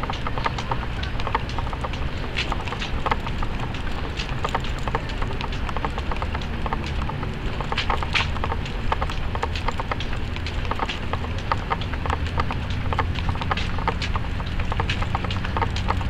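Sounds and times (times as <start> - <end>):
dog footsteps: 0.0 - 16.0.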